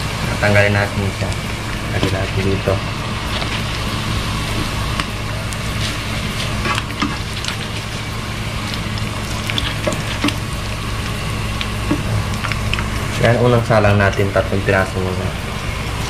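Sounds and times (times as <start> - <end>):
hot oil sizzling and popping: 0.0 - 16.0
steady low hum: 0.0 - 16.0.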